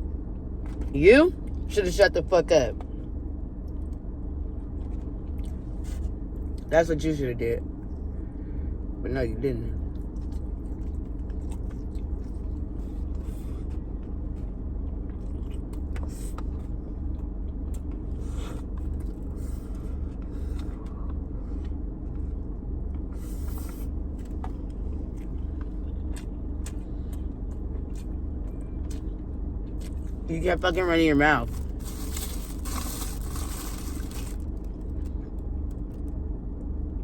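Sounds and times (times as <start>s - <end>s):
faint hum: 0.0s - 37.0s
low rumble: 0.0s - 37.0s.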